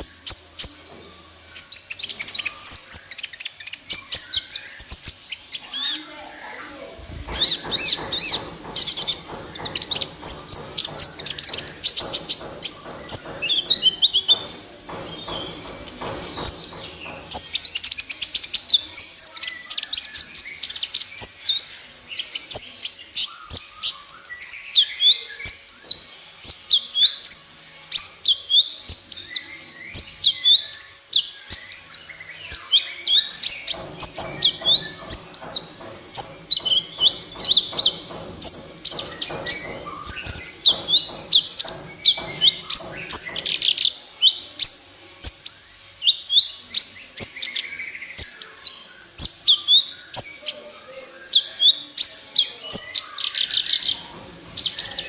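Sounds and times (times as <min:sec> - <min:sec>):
sunbird chirping and trilling: 0:00.0 - 0:55.0.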